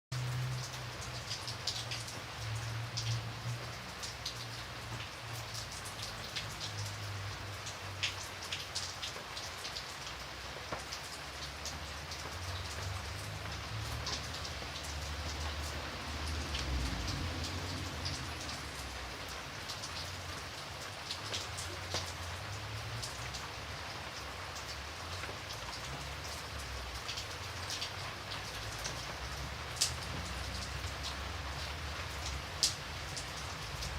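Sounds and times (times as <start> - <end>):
rain drops ticking on a surface: 0.1 - 33.9.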